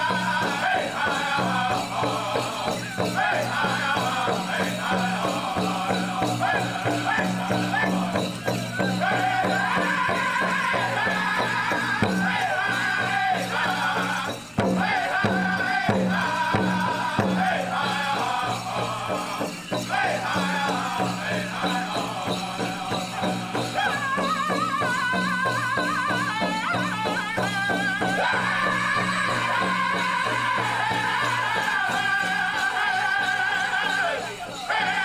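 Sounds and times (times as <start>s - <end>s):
steady beat on big drum: 0.0s - 32.5s
high wavering voices singing: 0.0s - 35.0s.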